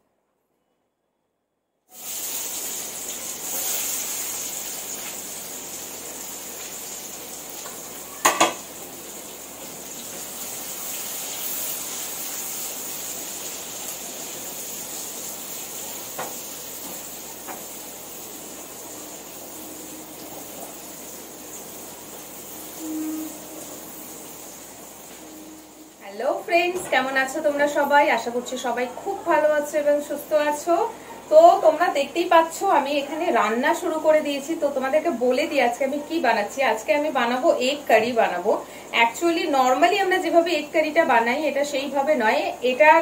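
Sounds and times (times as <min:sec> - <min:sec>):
food sizzling in a pan: 0:01.9 - 0:43.0.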